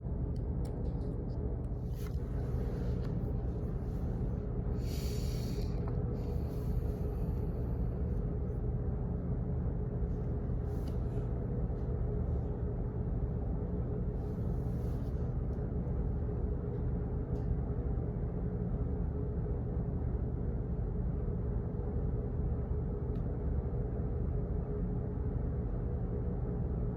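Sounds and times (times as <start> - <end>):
low office hum: 0.0 - 26.9.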